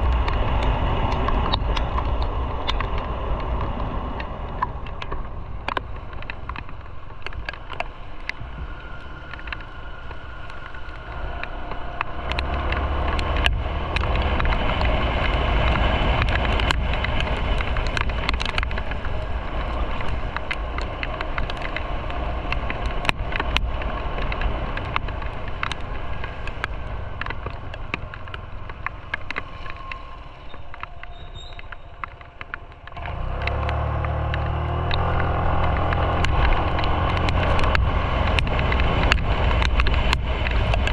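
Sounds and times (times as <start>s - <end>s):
motorcycle engine and road noise: 0.0s - 40.9s.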